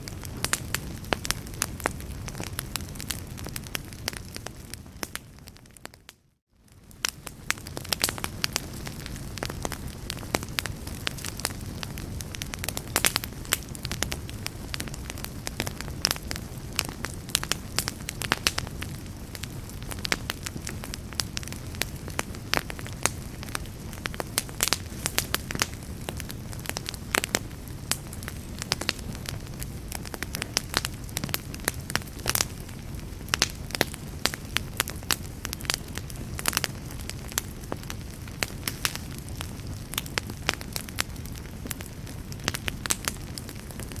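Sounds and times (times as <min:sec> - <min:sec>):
low rumble of flames: 0:00.0 - 0:44.0
wood fire crackling: 0:00.0 - 0:44.0
fire pops and snaps: 0:00.1 - 0:44.0.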